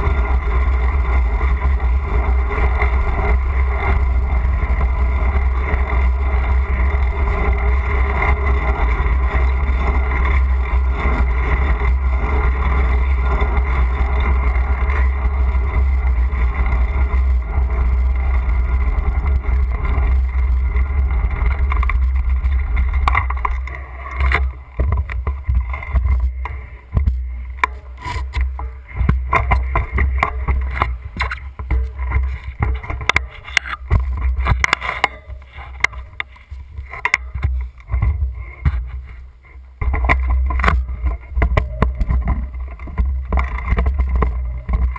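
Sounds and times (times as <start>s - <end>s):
bike knocks and rattles: 0.0s - 44.9s
road rumble: 0.0s - 44.9s.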